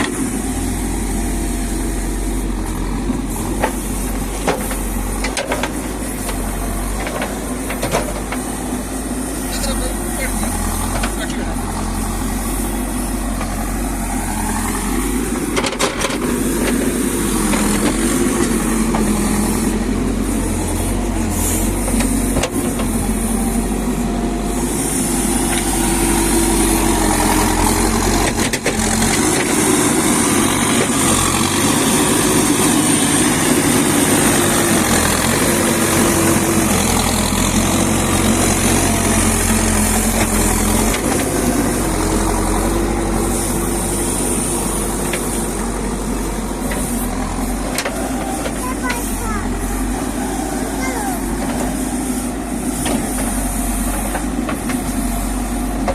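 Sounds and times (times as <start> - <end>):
diesel engine under hydraulic load: 0.0 - 55.9.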